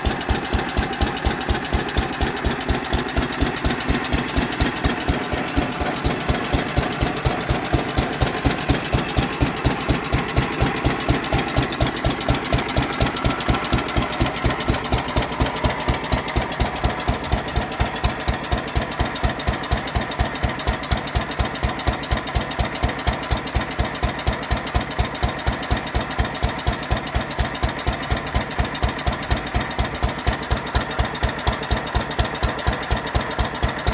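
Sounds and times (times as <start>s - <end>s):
single-cylinder gas engine running: 0.0s - 33.9s.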